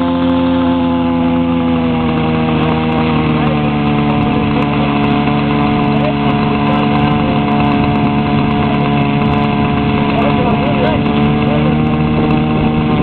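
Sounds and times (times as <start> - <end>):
model plane engine idling: 0.0 - 13.0.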